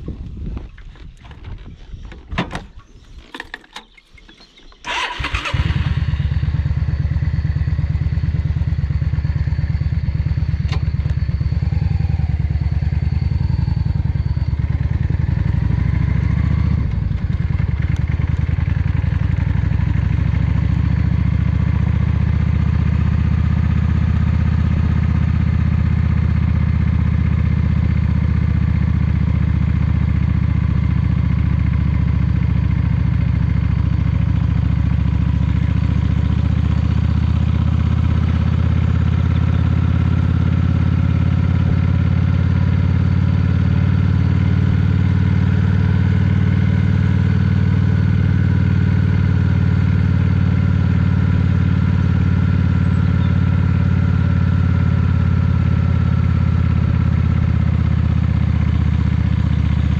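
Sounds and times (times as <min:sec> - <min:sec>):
motorcycle engine starting and running: 0:00.0 - 0:59.9.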